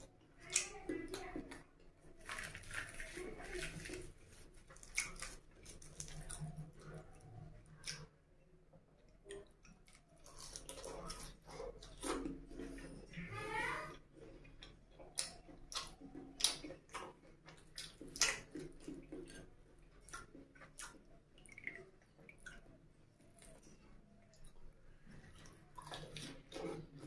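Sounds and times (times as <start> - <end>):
fingers squelching through food: 0.0 - 8.1, 9.1 - 13.1, 13.9 - 27.0
wet chewing and lip-smacking: 0.0 - 8.3, 8.9 - 13.2, 13.9 - 27.0.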